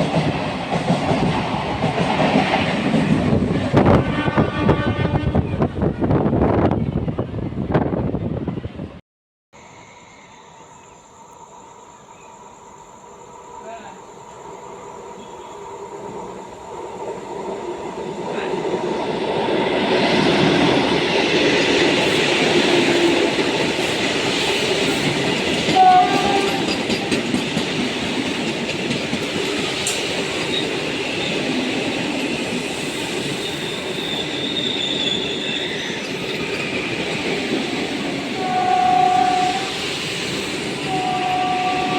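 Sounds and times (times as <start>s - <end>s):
train rolling past on rails: 0.0s - 9.0s, 9.6s - 41.9s.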